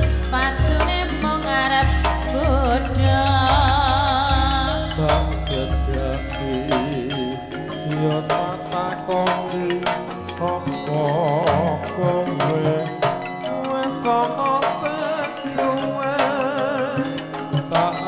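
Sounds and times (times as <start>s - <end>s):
drum strokes: 0.0s - 18.0s
metallophone tones: 0.0s - 18.0s
woman singing: 0.0s - 18.0s.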